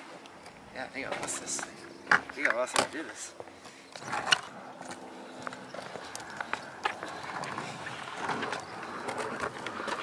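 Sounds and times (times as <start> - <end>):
skateboard wheels rolling: 0.0 - 10.0.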